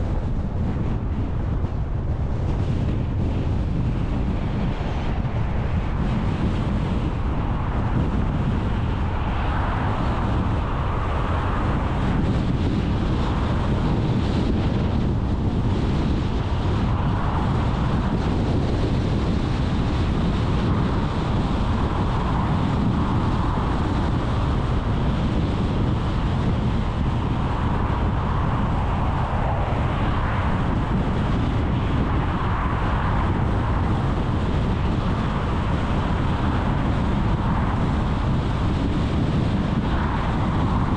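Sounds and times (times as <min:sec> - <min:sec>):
car road and engine noise: 0:00.0 - 0:40.9
wind gusting over microphone: 0:00.0 - 0:40.9.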